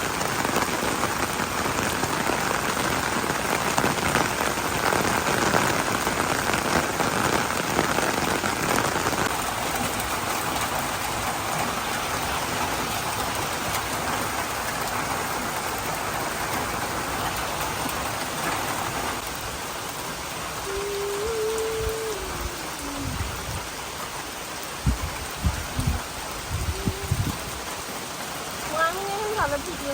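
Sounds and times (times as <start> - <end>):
rain falling: 0.0 - 29.9.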